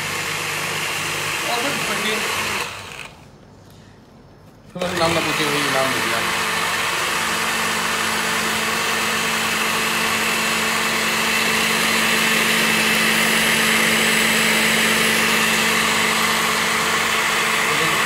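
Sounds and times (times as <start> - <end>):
blender motor whirring: 0.0 - 3.2, 4.7 - 18.0.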